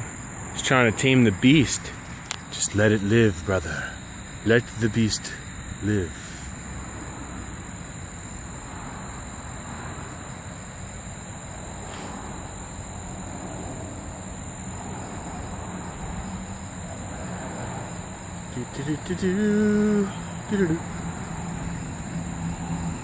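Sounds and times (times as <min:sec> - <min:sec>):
insects shrilling: 0:00.6 - 0:23.0.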